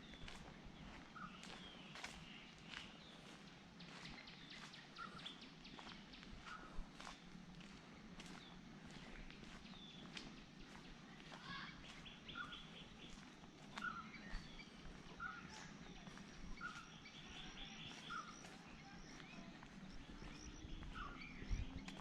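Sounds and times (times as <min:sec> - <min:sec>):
light footsteps: 0:00.0 - 0:22.0.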